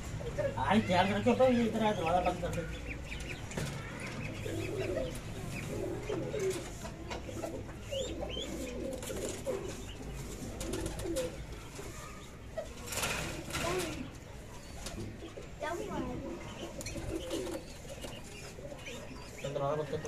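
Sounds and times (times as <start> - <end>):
doves cooing: 0.0 - 20.0.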